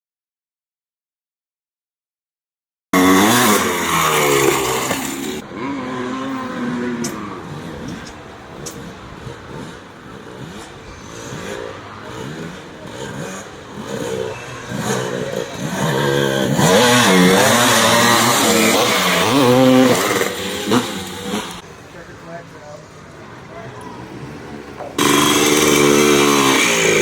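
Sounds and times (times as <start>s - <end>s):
motocross bike engines revving: 3.0s - 27.0s.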